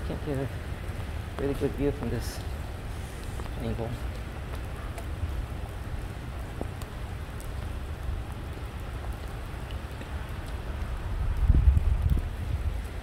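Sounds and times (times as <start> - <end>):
rain on concrete: 0.0 - 13.0.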